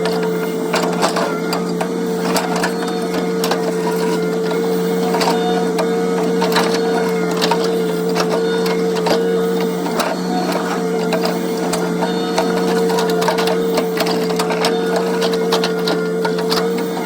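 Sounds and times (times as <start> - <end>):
mini excavator hum and whine: 0.0 - 17.0.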